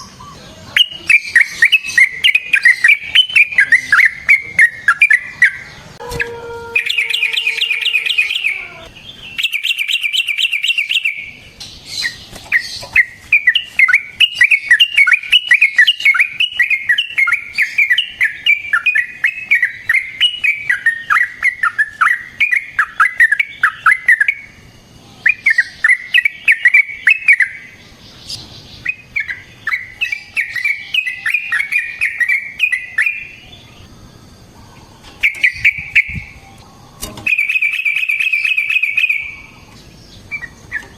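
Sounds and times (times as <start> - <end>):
bulbul singing chattering notes: 0.0 - 6.0, 6.8 - 34.4, 35.2 - 36.5, 37.3 - 40.9.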